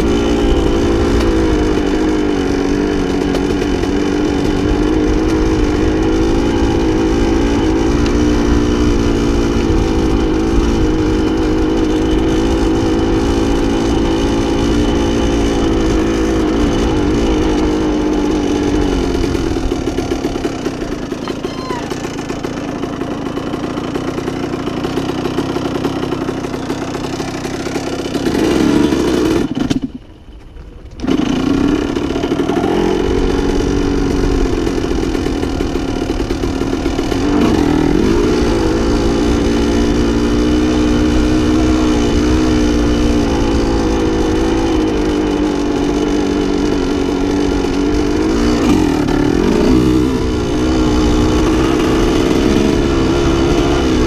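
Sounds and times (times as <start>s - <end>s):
two-stroke motorcycle engine: 0.0s - 54.0s.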